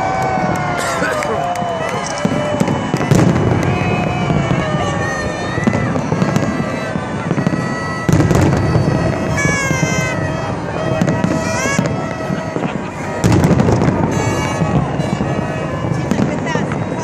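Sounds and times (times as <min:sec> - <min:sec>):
crowd noise: 0:00.0 - 0:17.0
fireworks booming: 0:00.0 - 0:17.0
fireworks whistling: 0:00.0 - 0:17.0.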